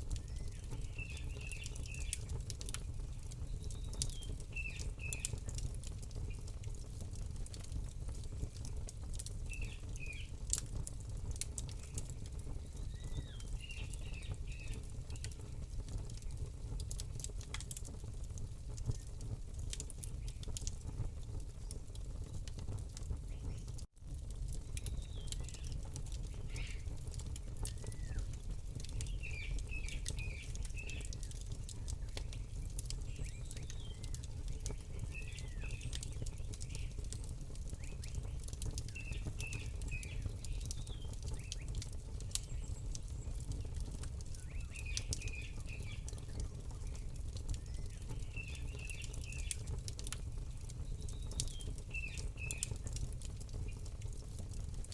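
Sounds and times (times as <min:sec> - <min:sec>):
campfire crackling: 0:00.0 - 0:54.9
small birds chirping: 0:00.1 - 0:18.0, 0:18.8 - 0:23.8, 0:24.5 - 0:54.0.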